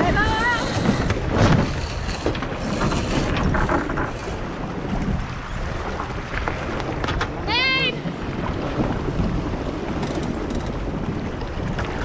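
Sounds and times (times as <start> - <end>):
water washing along hull: 0.0 - 12.0
wind buffeting microphone: 0.0 - 12.0.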